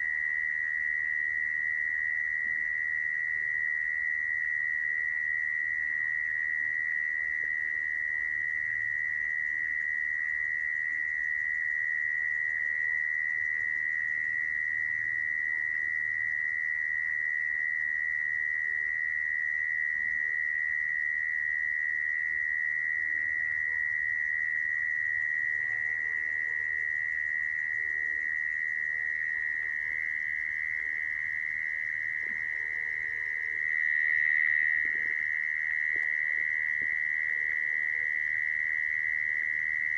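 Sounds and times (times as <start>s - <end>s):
mole cricket trilling: 0.0s - 39.9s.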